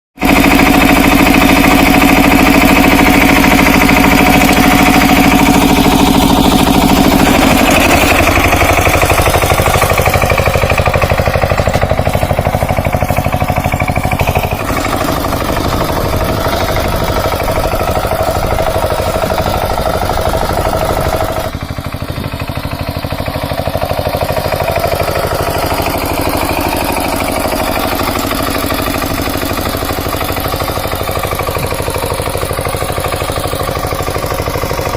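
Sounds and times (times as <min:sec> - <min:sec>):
diesel tiller engine running: 0:00.2 - 0:34.9.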